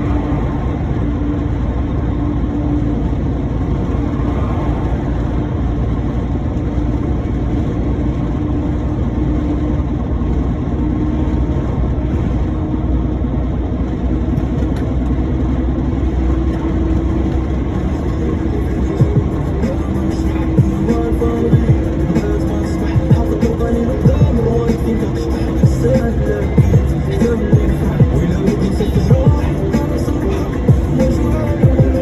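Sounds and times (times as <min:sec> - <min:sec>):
road noise: 0:00.0 - 0:32.0
truck engine running: 0:00.0 - 0:32.0.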